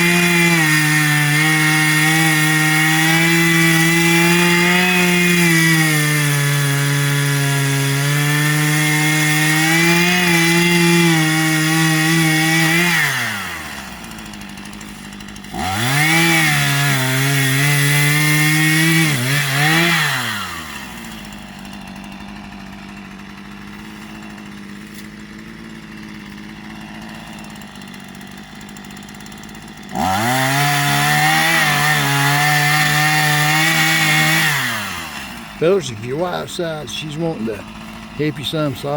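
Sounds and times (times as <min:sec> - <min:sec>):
chainsaw revving and idling: 0:00.0 - 0:38.9.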